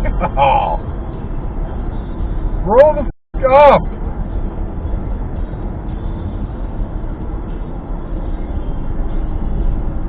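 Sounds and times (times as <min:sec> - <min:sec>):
car interior engine and road rumble: 0:00.0 - 0:10.0.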